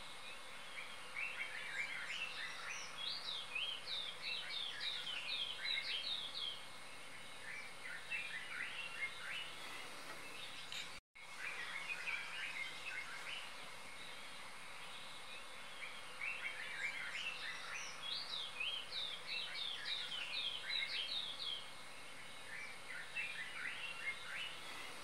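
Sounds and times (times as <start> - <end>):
faint outdoor hiss: 0.0 - 25.0
small birds chirping: 0.0 - 25.0.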